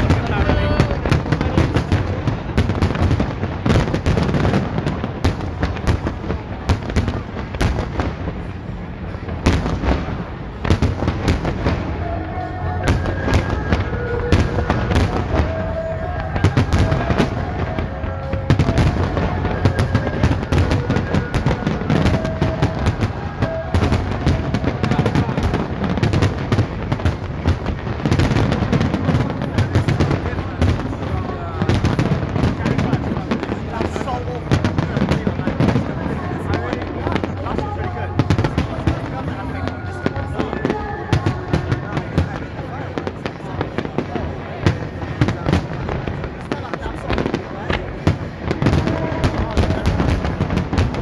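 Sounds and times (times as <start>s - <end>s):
fireworks bursting and crackling: 0.0s - 51.0s.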